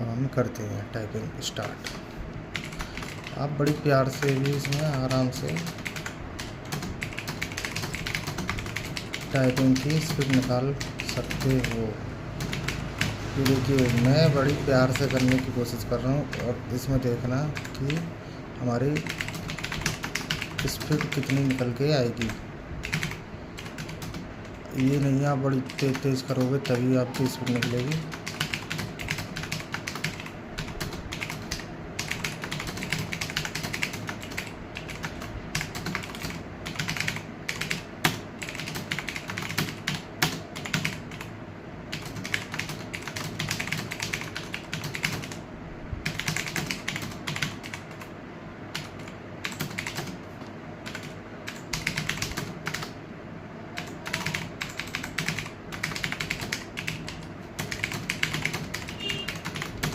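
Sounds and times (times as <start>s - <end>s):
fast typing on computer keyboard: 1.5s - 18.1s, 18.7s - 41.3s, 41.9s - 45.4s, 46.0s - 48.1s, 48.7s - 53.0s, 53.8s - 59.9s.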